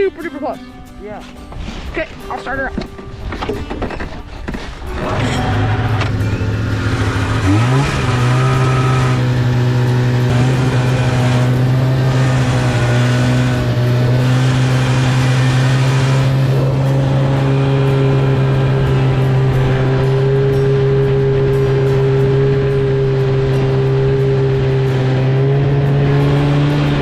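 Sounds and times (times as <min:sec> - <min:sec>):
snowmobile engine running: 0:04.8 - 0:27.0.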